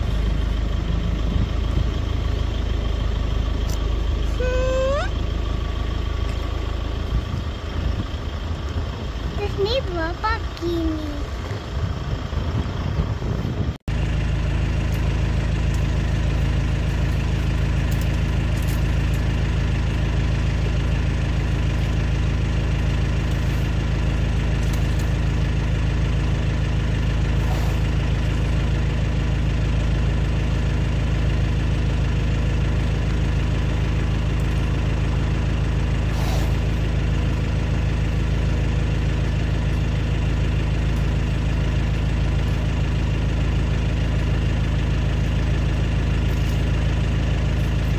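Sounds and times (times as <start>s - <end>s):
vehicle engine idling: 0.0s - 47.9s.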